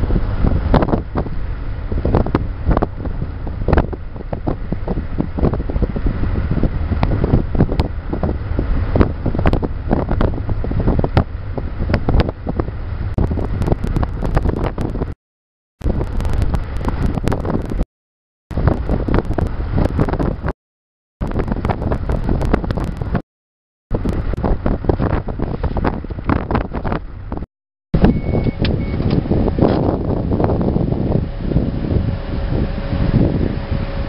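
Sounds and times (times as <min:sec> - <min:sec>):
wind buffeting microphone: 0:00.0 - 0:15.2, 0:15.8 - 0:17.9, 0:18.5 - 0:20.6, 0:21.2 - 0:23.2, 0:23.9 - 0:34.0.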